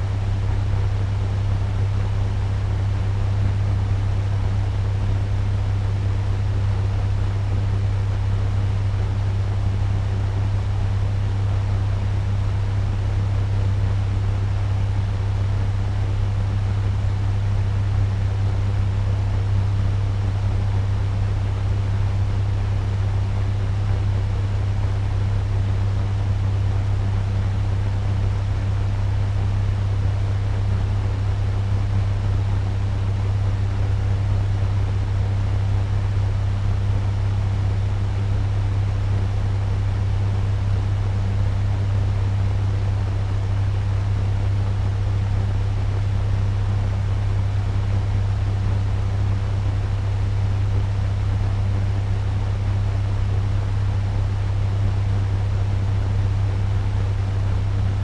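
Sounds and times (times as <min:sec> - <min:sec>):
fan air rush: 0:00.0 - 0:58.0
low motor hum: 0:00.0 - 0:58.0.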